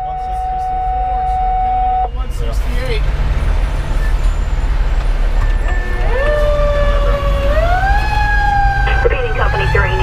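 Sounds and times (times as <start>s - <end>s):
fire engine siren: 0.0s - 2.4s, 3.7s - 10.0s
diesel engine rumbling: 0.0s - 10.0s.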